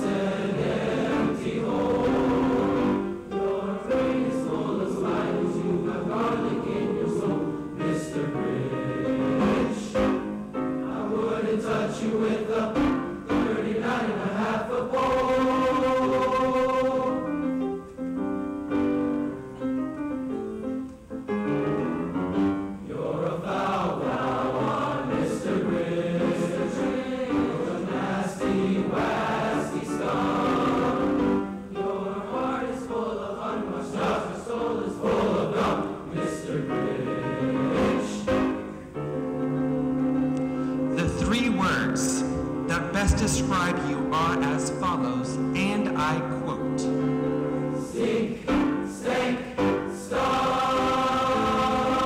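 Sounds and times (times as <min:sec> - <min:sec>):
choir singing in parts: 0:00.0 - 0:17.8, 0:22.4 - 0:45.2, 0:46.8 - 0:52.0.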